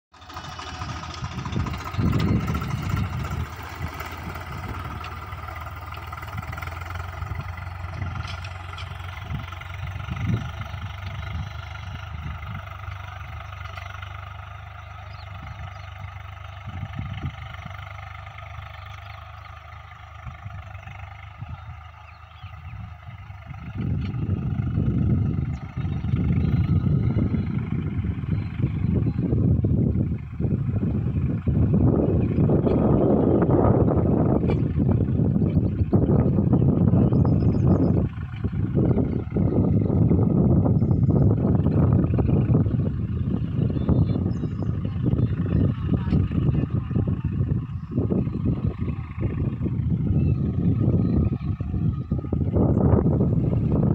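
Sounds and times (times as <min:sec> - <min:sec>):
tractor engine running: 0:00.1 - 0:53.9
low rumbling thumps: 0:00.7 - 0:13.4, 0:22.7 - 0:53.9.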